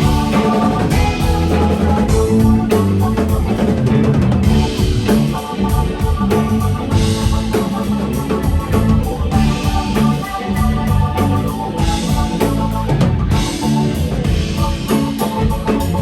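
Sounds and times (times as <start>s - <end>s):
drum kit: 0.0s - 16.0s
electric guitar: 0.0s - 16.0s.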